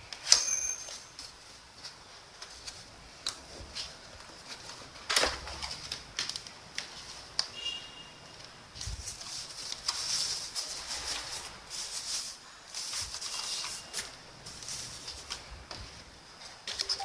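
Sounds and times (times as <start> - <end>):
packaging rustling and crinkling: 0.9 - 7.6, 8.4 - 17.0.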